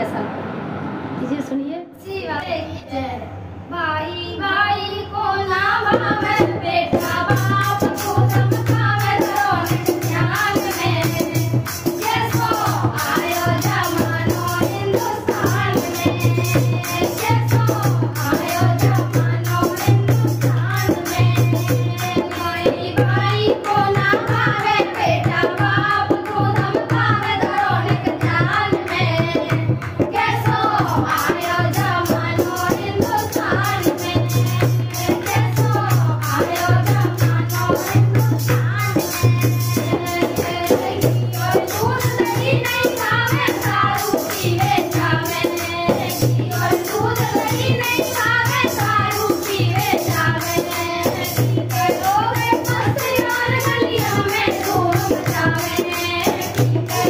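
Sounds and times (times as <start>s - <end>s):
women singing together: 3.7s - 57.0s
steady drum rhythm: 6.0s - 57.0s.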